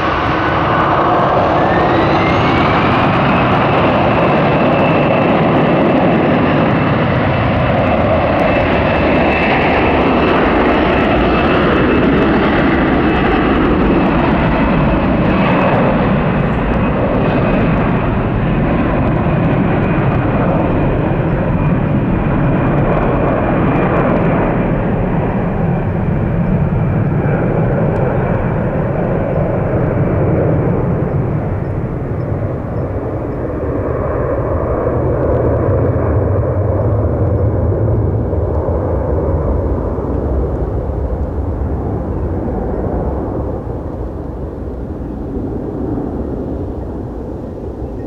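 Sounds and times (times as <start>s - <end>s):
jet engine roar with whine: 0.0s - 48.0s.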